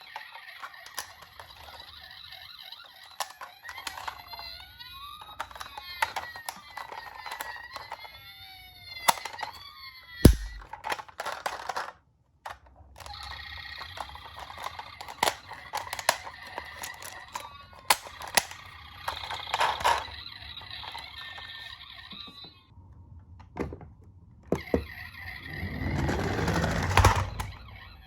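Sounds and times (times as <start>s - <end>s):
toy clicks and knocks: 0.0s - 22.6s.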